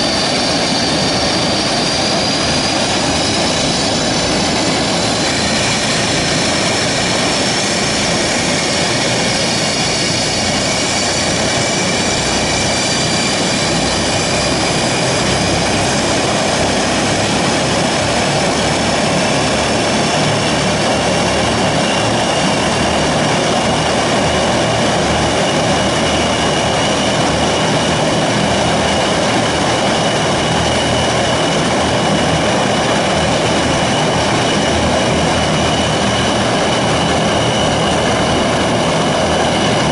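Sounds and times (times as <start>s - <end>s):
high whining tones: 0.0s - 39.9s
turboprop engines droning: 0.0s - 39.9s.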